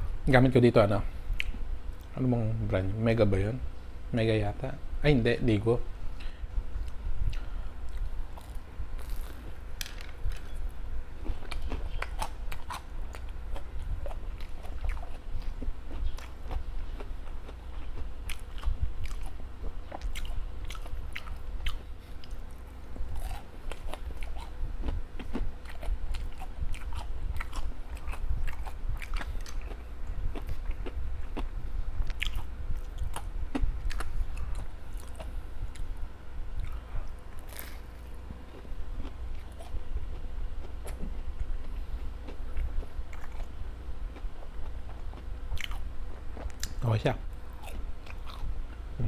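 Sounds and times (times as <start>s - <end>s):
chewing and crunching food: 6.8s - 48.9s.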